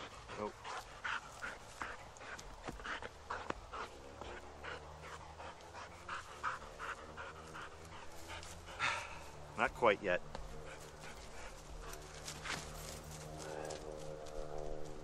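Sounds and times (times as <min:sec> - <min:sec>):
dog panting: 0:00.0 - 0:14.6.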